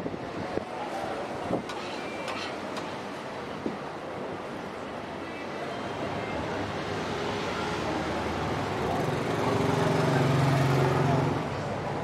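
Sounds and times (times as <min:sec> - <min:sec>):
busy street noise: 0:00.0 - 0:12.0.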